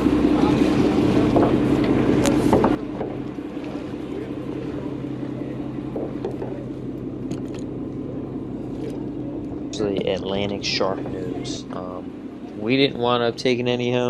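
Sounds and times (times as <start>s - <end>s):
water noise: 0.0s - 13.5s
boat engine running: 0.0s - 14.0s.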